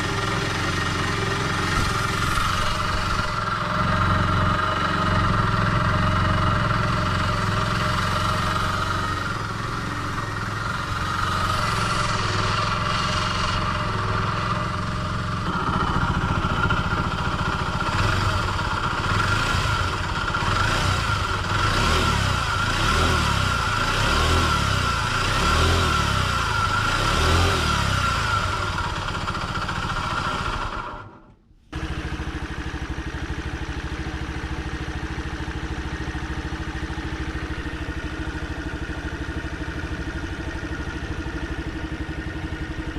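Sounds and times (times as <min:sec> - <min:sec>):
worn scooter engine running: 0:00.0 - 0:42.9.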